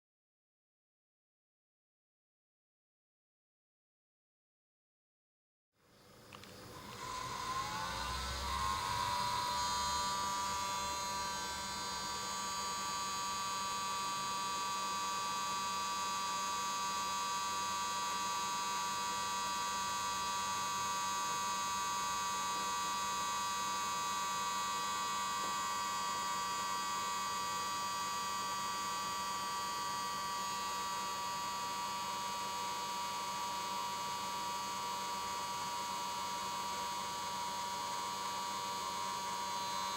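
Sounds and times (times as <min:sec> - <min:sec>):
grinding whine: 0:06.1 - 0:39.9
cooling fan spinning up: 0:06.4 - 0:39.9.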